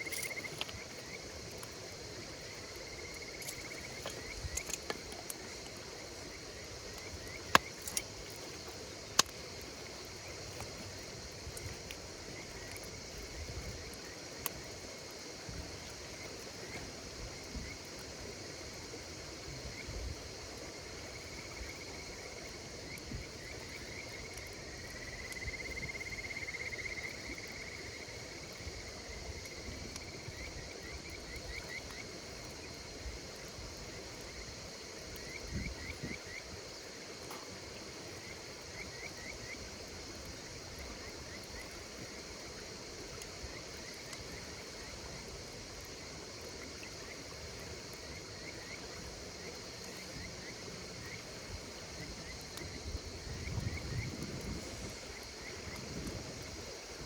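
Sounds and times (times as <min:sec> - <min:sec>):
campfire pops: 0:00.0 - 0:18.2, 0:26.8 - 0:34.4, 0:37.1 - 0:57.0
campfire crackling: 0:00.0 - 0:57.0
insect trill: 0:00.0 - 0:57.0
insects chirping: 0:00.0 - 0:57.0.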